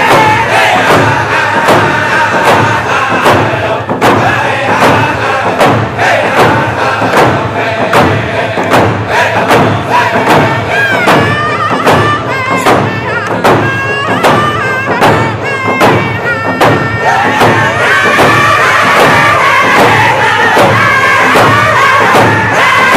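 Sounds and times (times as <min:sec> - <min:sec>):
people singing: 0:00.0 - 0:22.9
steady drum beat: 0:00.0 - 0:22.9.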